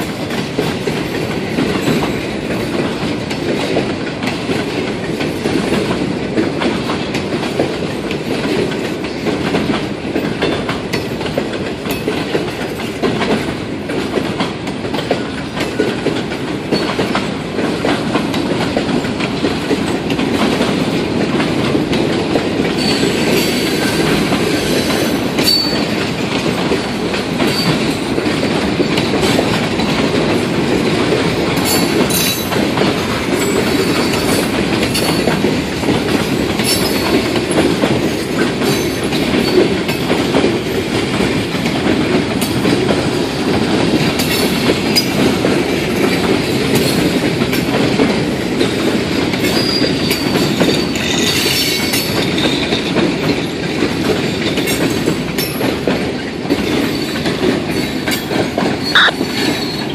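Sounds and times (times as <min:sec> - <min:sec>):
rail joint clicks: 0:00.0 - 0:59.9
steel wheels rumbling on rail: 0:00.0 - 0:59.9.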